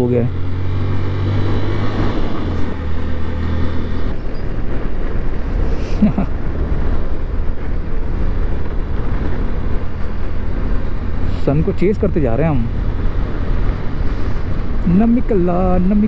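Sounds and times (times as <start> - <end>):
road rush: 0.0 - 16.0.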